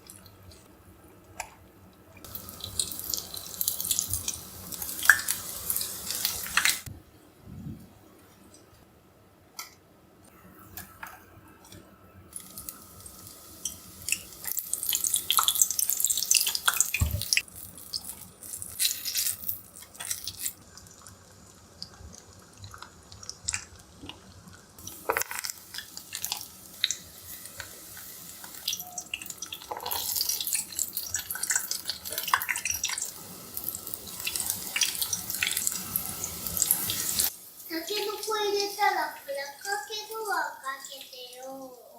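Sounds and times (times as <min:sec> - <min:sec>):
frying in hot oil: 0:02.2 - 0:06.9, 0:12.3 - 0:41.9.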